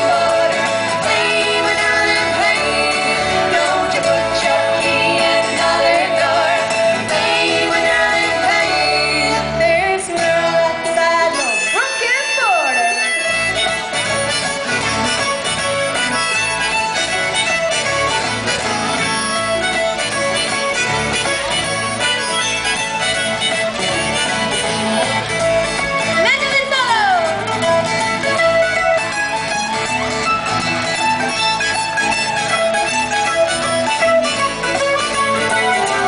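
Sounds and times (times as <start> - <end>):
strummed acoustic guitar: 0.0 - 12.0, 13.0 - 36.0
plucked strings: 0.0 - 36.0.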